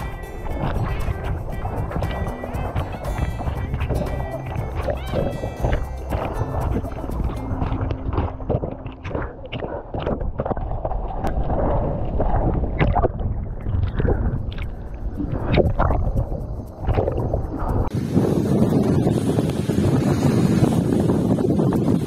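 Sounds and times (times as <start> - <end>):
water sloshing and splashing: 0.0 - 18.1
wind rumbling on microphone: 0.0 - 22.0.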